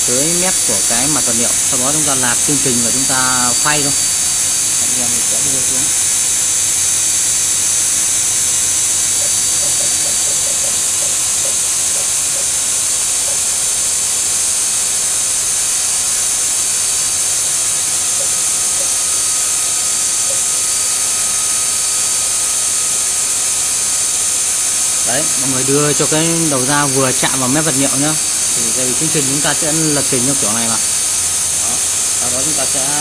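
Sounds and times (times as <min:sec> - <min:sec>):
router spindle high-pitched hiss: 0:00.0 - 0:33.0.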